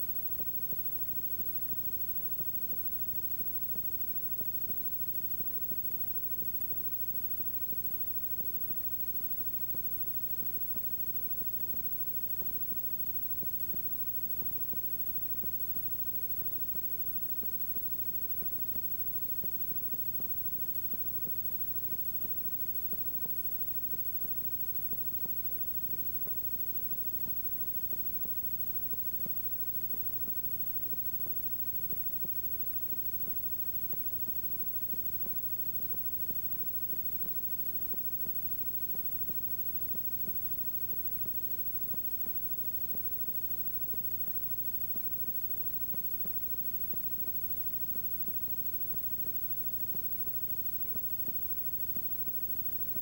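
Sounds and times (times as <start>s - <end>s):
electrical hum with buzzing: 0.0s - 53.0s
faint regular ticks: 0.0s - 53.0s
tape hiss: 0.0s - 53.0s.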